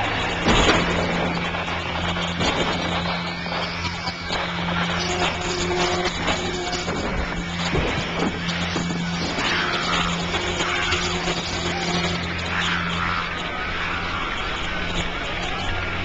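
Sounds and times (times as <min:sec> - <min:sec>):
big fire rushing: 0:00.0 - 0:16.0
low hum: 0:00.0 - 0:16.0.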